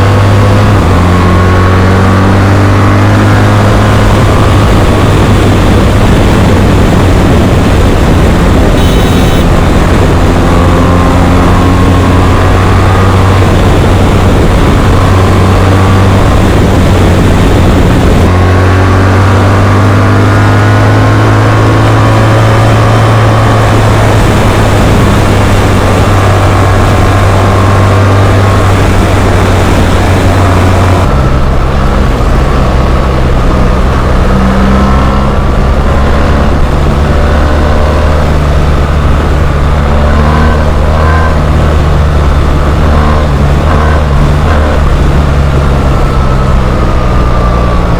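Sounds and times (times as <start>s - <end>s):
motorcycle engine running loudly: 0.0s - 47.9s.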